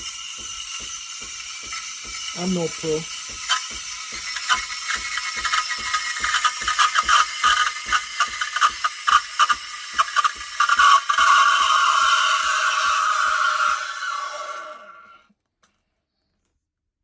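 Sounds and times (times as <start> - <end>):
steam wand frothing milk: 0.0 - 15.3.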